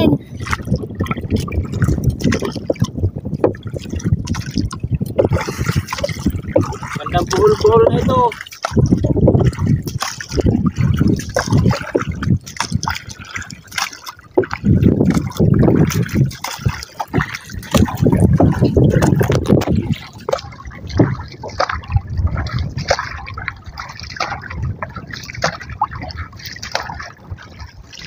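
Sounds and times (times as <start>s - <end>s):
paddle stroking through water: 0.0s - 28.0s
water splashing and trickling: 0.0s - 28.0s.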